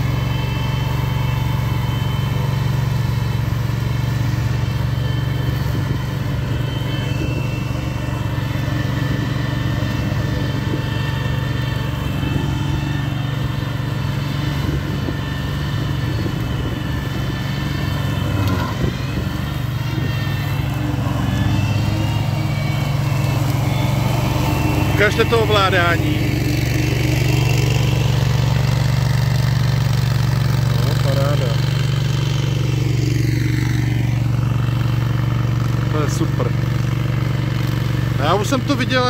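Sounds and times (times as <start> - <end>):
blades cutting tall grass: 0.0 - 39.0
mower engine running: 0.0 - 39.0.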